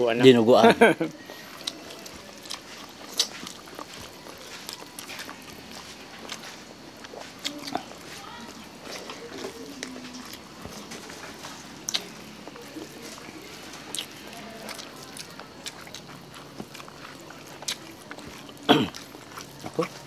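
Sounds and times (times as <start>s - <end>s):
chewing and lip smacking: 1.1s - 20.0s.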